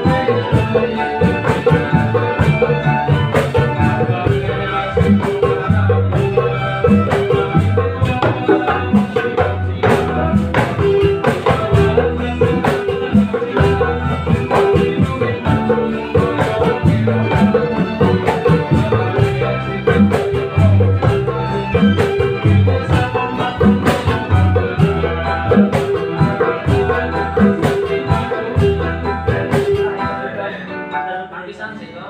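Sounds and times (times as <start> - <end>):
drum beating steady rhythm: 0.0 - 30.4
band music: 0.0 - 32.0.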